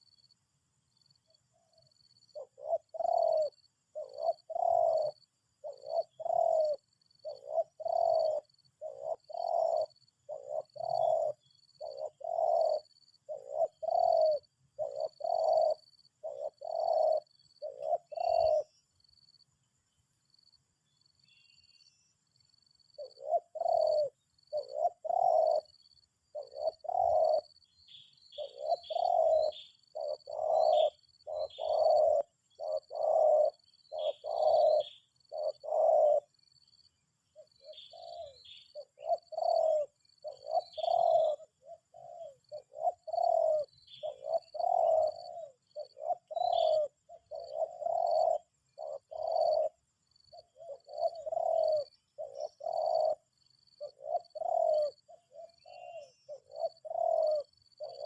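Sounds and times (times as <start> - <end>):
faint high bird chirps: 0.0 - 58.0
dove cooing: 1.7 - 18.9, 22.8 - 36.4, 37.3 - 58.0.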